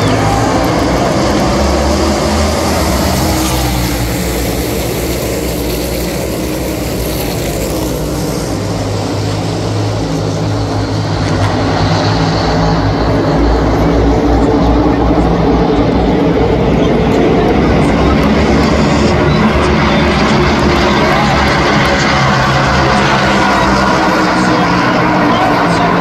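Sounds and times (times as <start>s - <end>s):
race car engines roaring: 0.0s - 26.0s.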